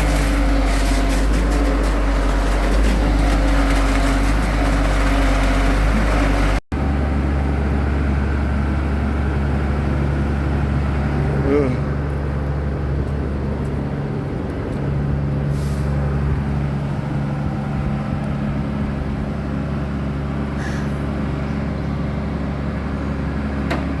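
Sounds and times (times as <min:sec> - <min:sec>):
vehicle engine rumble and road noise: 0:00.0 - 0:24.0.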